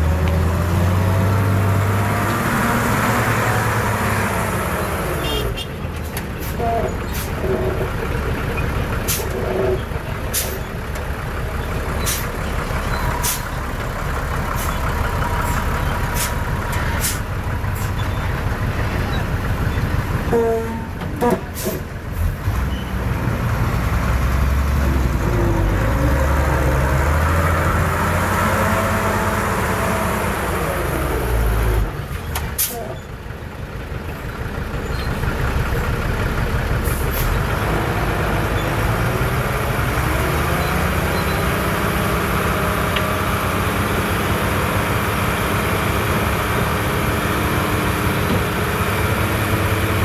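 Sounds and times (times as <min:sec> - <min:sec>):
diesel earthmoving machinery running: 0:00.0 - 0:50.0.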